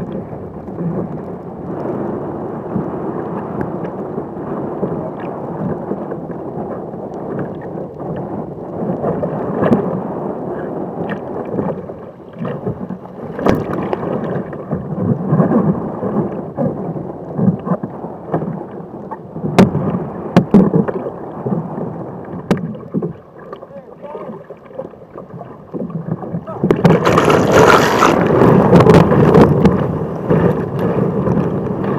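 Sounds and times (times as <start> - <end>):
rough sea water splashing: 0.0 - 31.9.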